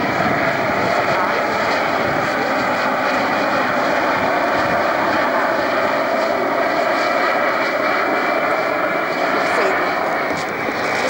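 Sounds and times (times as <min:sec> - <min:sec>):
helicopter flying past: 0:00.0 - 0:11.0.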